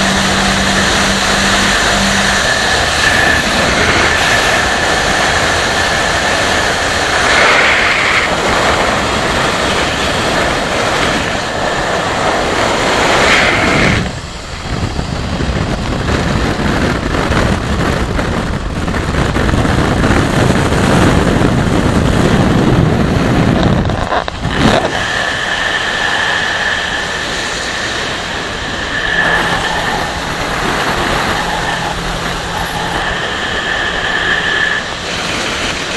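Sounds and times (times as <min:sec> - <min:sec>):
motorcycle engine and tyre noise: 0:00.0 - 0:35.9
steady high whine: 0:00.0 - 0:35.9
wind rushing over microphone: 0:00.0 - 0:35.9.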